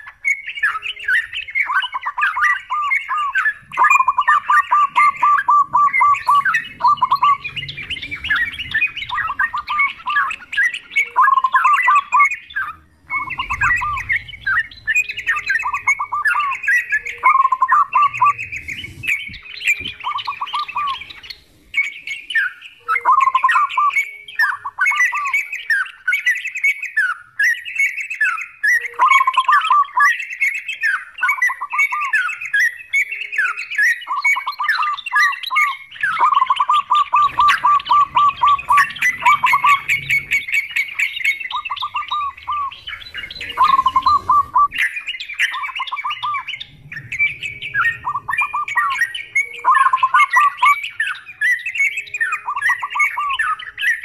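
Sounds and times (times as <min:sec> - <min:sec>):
bulbuls singing: 0:00.0 - 0:54.0.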